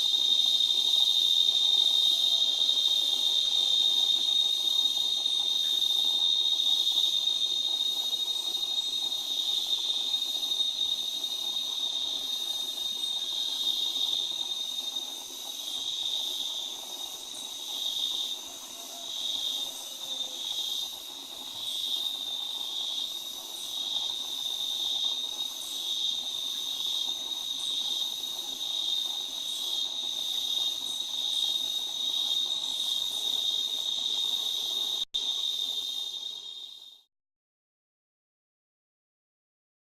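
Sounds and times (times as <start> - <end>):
high-pitched insect drone: 0.0 - 37.1.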